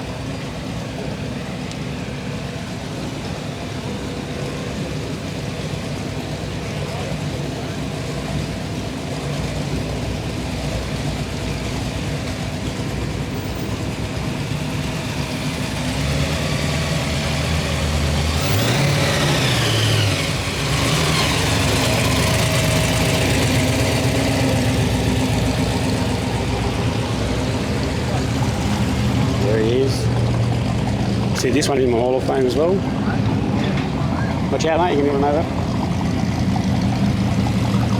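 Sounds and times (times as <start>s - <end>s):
car engines rumbling at low speed: 0.0s - 37.9s.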